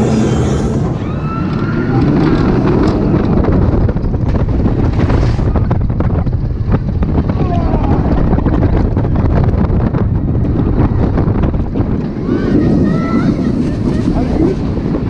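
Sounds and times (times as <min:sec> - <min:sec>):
roller coaster rumbling and rattling: 0:00.0 - 0:15.0
wind buffeting microphone: 0:00.0 - 0:15.0.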